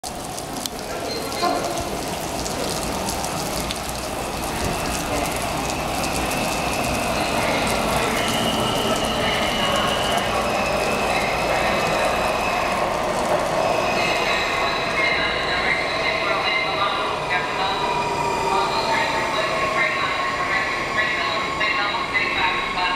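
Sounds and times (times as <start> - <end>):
subway train pulling in: 0.0 - 22.9.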